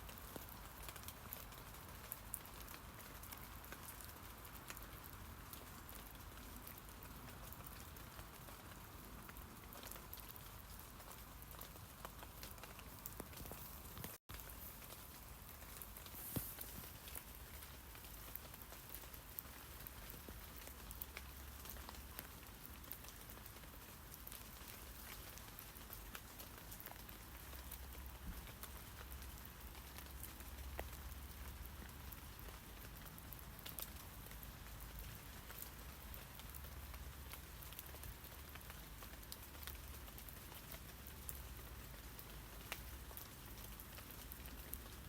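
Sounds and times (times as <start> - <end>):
light rain pattering on leaves: 0.0 - 45.0.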